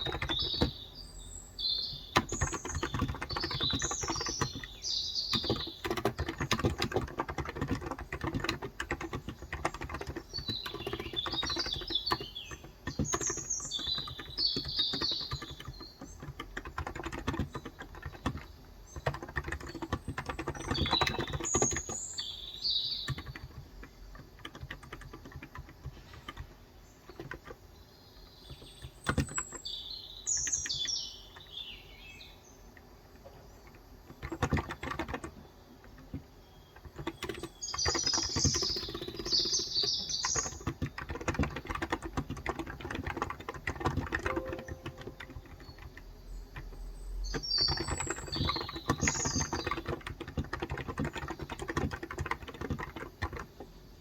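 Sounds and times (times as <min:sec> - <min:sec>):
birds chirping: 0:00.0 - 0:54.0
keyboard key clicks: 0:01.9 - 0:22.0, 0:23.1 - 0:26.5, 0:28.4 - 0:29.6, 0:32.8 - 0:53.6.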